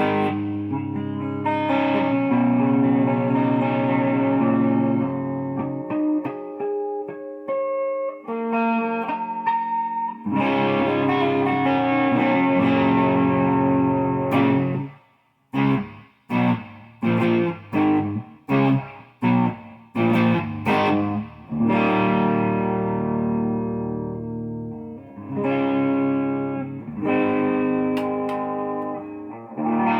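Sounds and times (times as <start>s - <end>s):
clean electric guitar: 0.0s - 29.9s.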